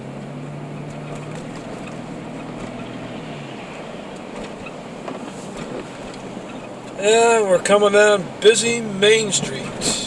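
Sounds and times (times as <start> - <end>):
low engine hum: 0.0 - 10.0
tyre and road noise: 0.0 - 10.0.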